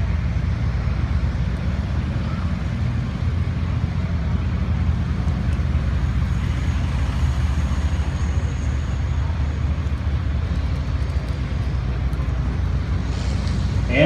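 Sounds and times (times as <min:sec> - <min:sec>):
tractor diesel engine rumbling: 0:00.0 - 0:14.0.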